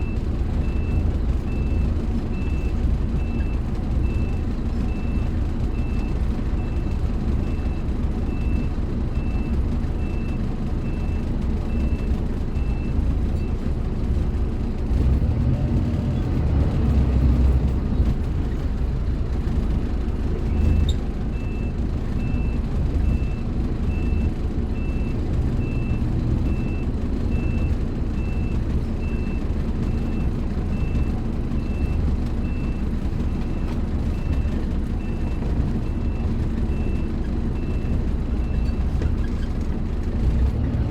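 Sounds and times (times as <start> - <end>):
bus diesel engine rumbling: 0.0 - 40.9.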